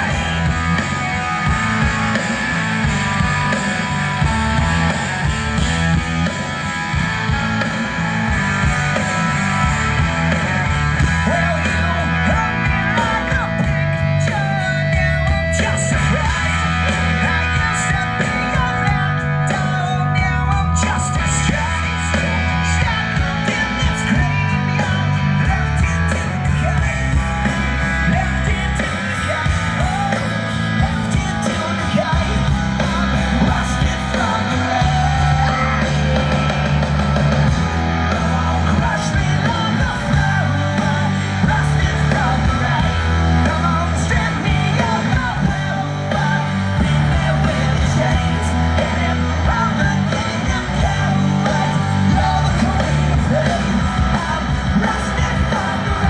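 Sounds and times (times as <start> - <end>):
bass guitar: 0.0 - 56.0
distorted electric guitar: 0.0 - 56.0
drums: 0.0 - 56.0
person singing and yelling: 7.1 - 56.0.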